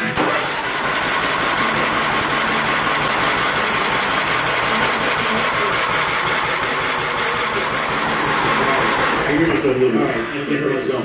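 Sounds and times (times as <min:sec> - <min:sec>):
engine cranking on starter: 0:00.0 - 0:09.9.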